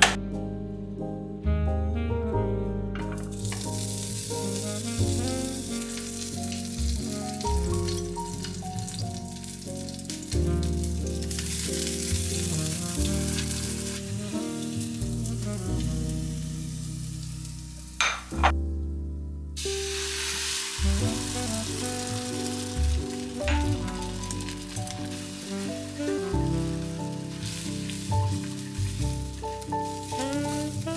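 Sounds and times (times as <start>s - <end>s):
soft background music: 0.0s - 30.9s
food sizzling in frying pan: 3.2s - 18.4s, 19.6s - 30.9s.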